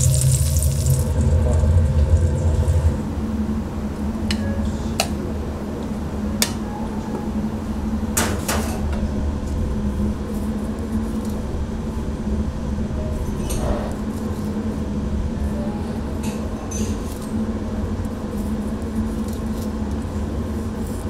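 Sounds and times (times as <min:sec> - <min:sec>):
kitchen machine hum: 0:00.0 - 0:21.0.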